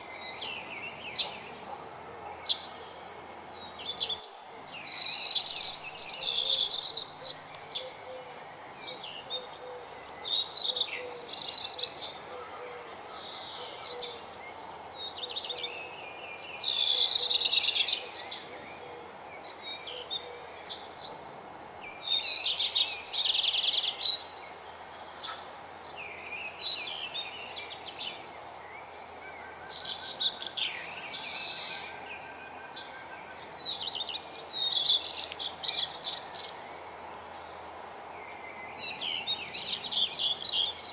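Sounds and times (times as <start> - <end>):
songbirds singing: 0.0 - 40.9
steady background hiss: 0.0 - 40.9.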